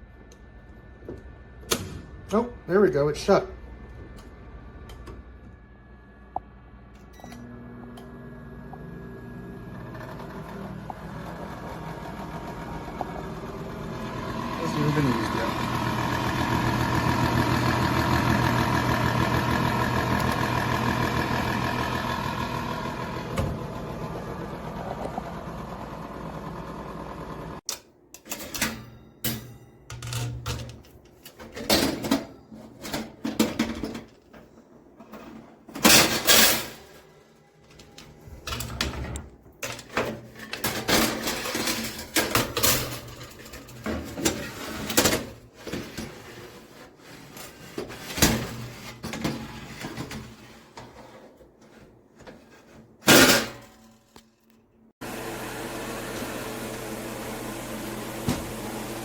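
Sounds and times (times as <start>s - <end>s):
mechanical hum with whine: 0.0s - 59.0s.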